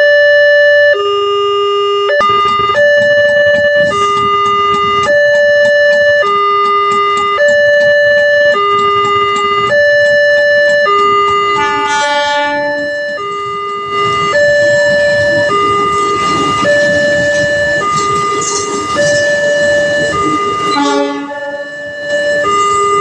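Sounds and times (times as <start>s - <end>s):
level crossing warning siren: 0.0s - 23.0s
second warning tone: 1.9s - 23.0s.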